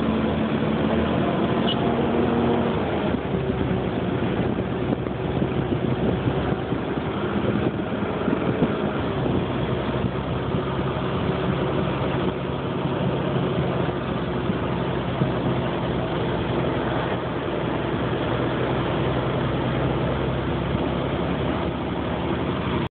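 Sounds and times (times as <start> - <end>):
road noise: 0.0 - 22.9
vehicle engine drone: 0.0 - 22.9.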